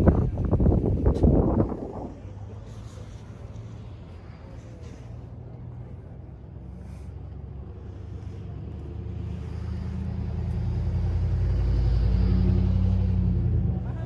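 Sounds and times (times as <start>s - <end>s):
motor vehicle engine droning: 0.0s - 14.0s.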